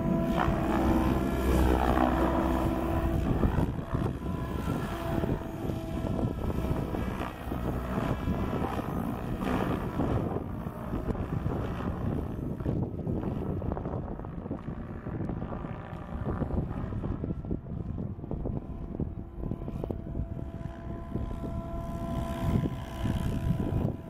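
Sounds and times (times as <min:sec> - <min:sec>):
rc helicopter motor whine: 0:00.0 - 0:24.0.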